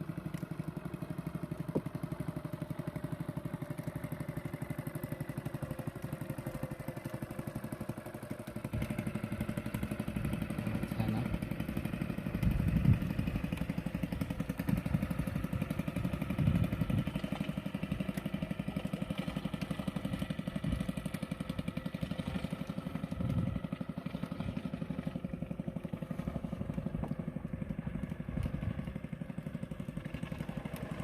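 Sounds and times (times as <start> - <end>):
small boat engine running: 0.0 - 31.0.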